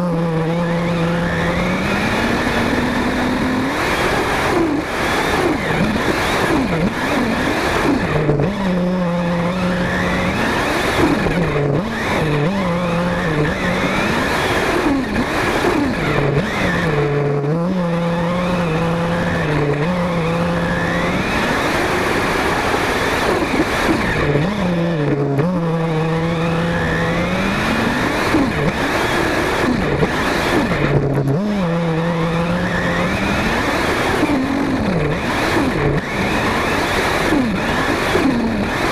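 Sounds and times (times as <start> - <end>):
rc car engine revving: 0.0 - 38.9
tyre and ground noise: 0.0 - 38.9.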